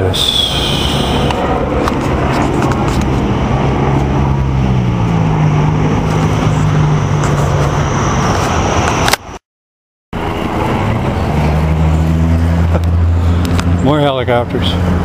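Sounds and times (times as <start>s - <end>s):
engine humming: 0.0s - 9.4s, 10.2s - 15.0s.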